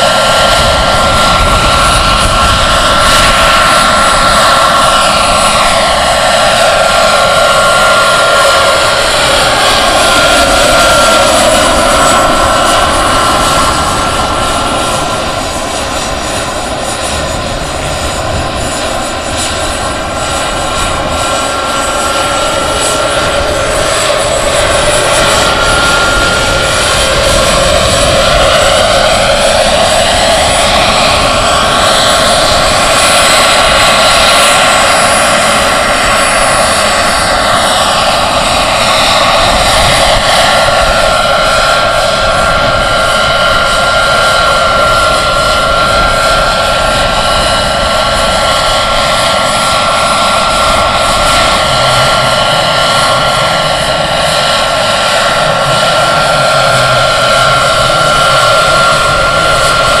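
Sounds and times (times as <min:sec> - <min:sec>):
model helicopter turbine and rotor: 0:00.0 - 1:00.0.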